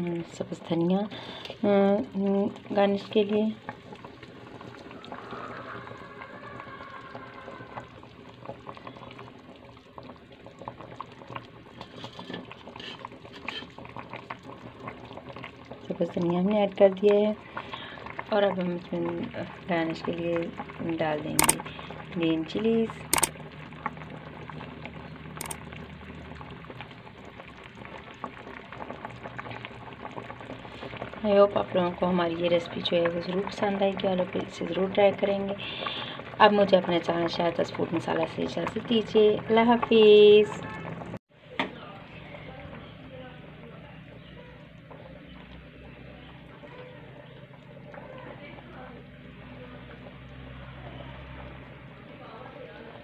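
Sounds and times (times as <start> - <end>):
curry bubbling in a pot: 0.0 - 53.0.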